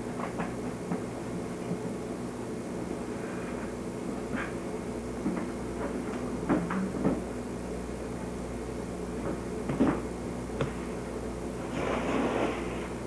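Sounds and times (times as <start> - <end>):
low appliance hum: 0.0 - 13.0.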